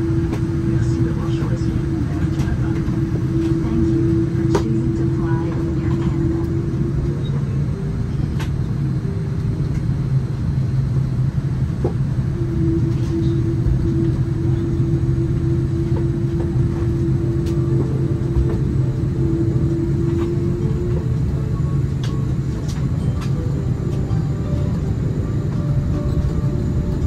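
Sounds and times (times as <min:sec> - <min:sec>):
airliner cabin engine hum: 0:00.0 - 0:27.0
steady mid-pitched tone: 0:00.0 - 0:27.0.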